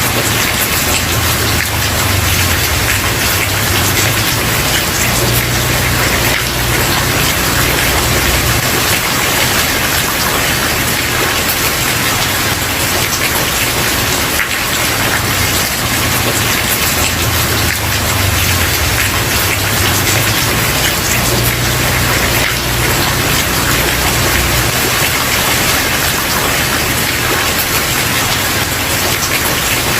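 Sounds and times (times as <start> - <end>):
heavy rain on wooden porch: 0.0 - 29.9.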